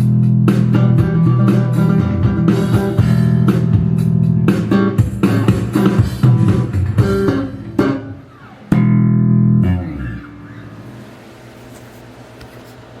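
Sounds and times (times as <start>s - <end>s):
electric bass notes: 0.0s - 11.2s
faint amp hum: 0.0s - 13.0s.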